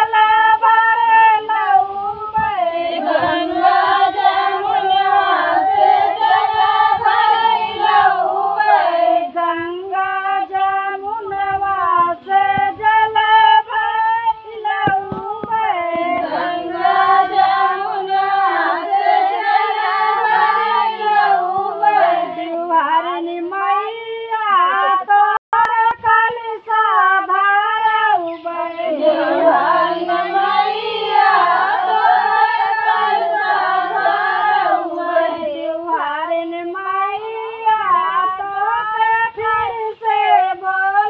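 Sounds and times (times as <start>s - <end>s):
women singing together: 0.0s - 41.0s.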